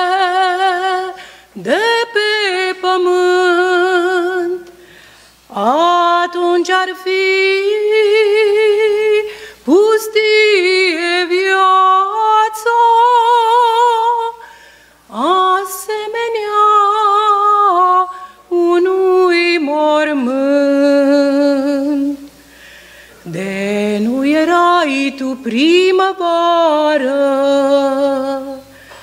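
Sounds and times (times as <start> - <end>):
woman singing unaccompanied: 0.0 - 4.8, 5.5 - 22.4, 23.2 - 28.9.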